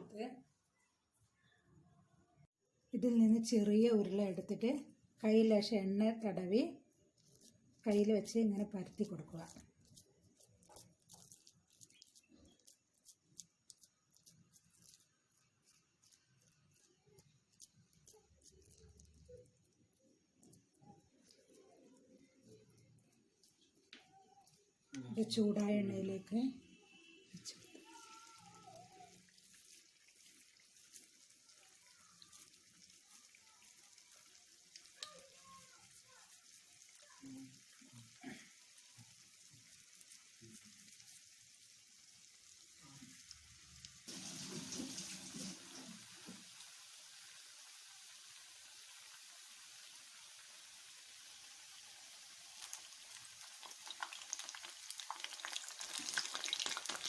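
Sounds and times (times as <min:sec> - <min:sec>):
dough sizzling in oil: 0:05.2 - 0:57.0.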